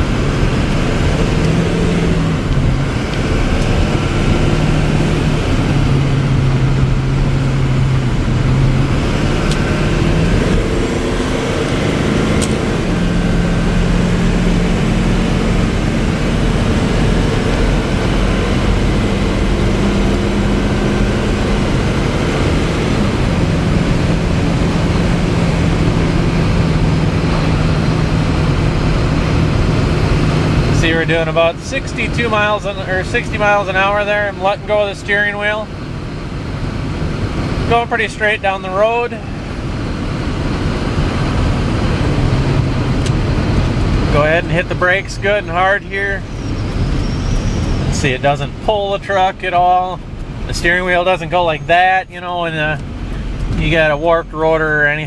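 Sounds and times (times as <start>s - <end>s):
diesel truck engine: 0.0s - 55.0s
road and tyre noise: 0.0s - 55.0s.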